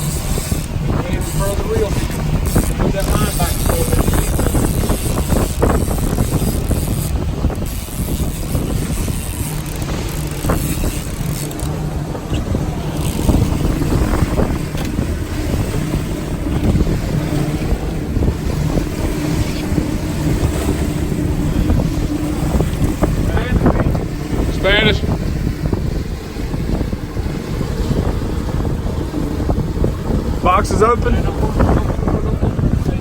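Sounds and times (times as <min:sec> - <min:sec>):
outboard motor humming: 0:00.0 - 0:33.0
wind buffeting microphone: 0:00.0 - 0:33.0.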